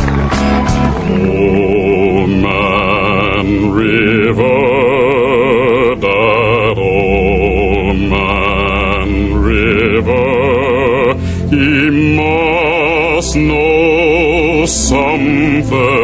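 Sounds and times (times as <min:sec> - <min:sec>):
low bass drone: 0:00.0 - 0:16.0
operatic chant-like singing: 0:01.0 - 0:16.0.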